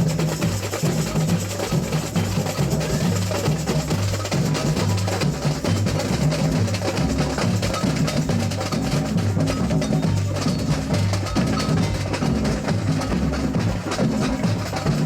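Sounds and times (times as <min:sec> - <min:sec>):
deep drum beats: 0:00.0 - 0:15.0
cowbell-like clicks: 0:00.2 - 0:15.0.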